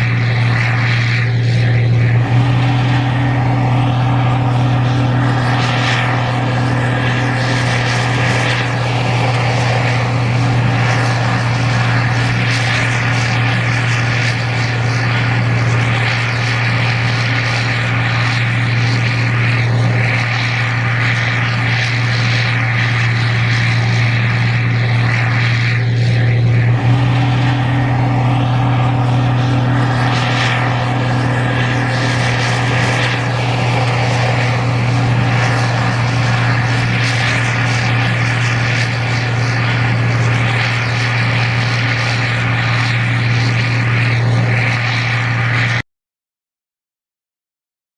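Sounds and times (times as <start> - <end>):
combine harvester engine running: 0.0 - 45.8.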